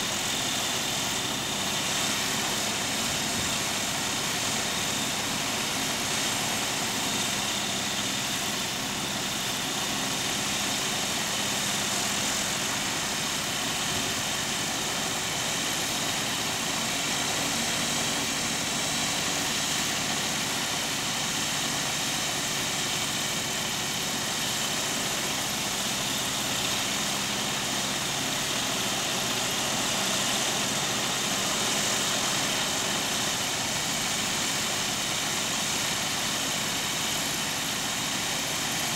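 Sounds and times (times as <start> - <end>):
aircraft engines idling: 0.0 - 38.9.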